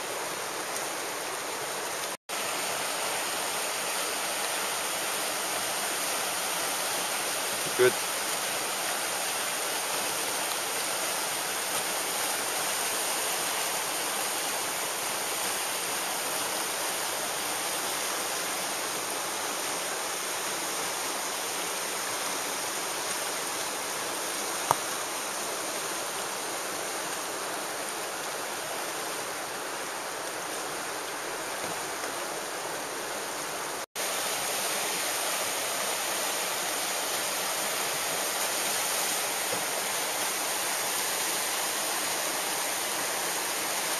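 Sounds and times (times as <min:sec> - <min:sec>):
whitewater rapids rushing: 0:00.0 - 0:32.5, 0:33.2 - 0:43.9.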